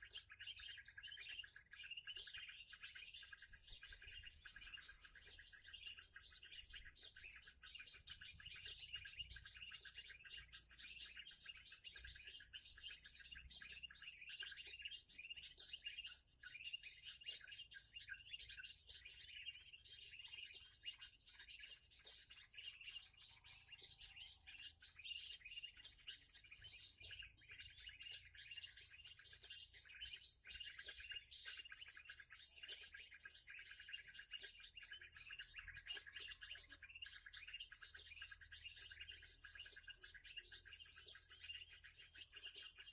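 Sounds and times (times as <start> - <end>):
faint bird chirping: 0.0 - 42.9.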